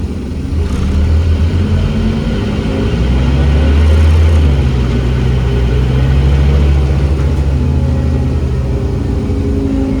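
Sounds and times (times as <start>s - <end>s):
bus diesel engine running: 0.0s - 10.0s.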